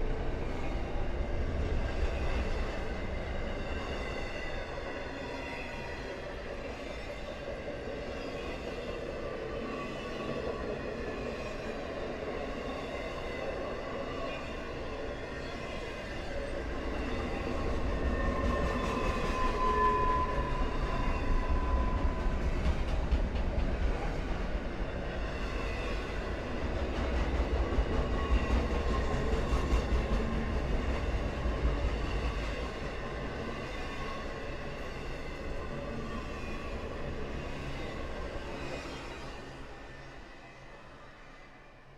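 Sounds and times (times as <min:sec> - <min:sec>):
train wheels rumbling on rail: 0:00.0 - 0:40.1.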